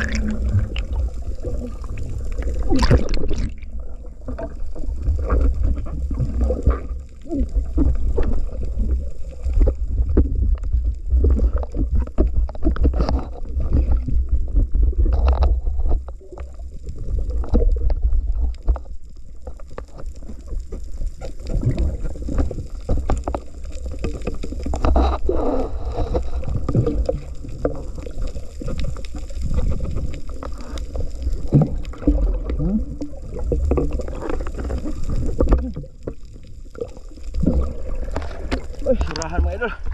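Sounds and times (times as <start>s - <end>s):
gurgling bubbles: 0.0s - 39.9s
underwater water rumble: 0.0s - 39.9s.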